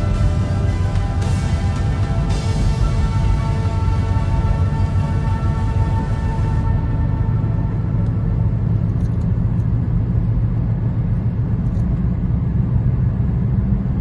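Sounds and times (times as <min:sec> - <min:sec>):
vehicle rumbling on road: 0:00.0 - 0:14.0.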